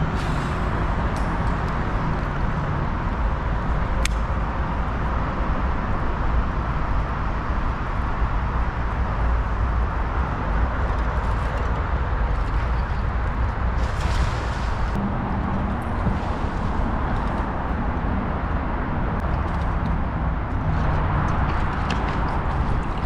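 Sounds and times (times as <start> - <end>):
low rumble and hiss: 0.0 - 23.0.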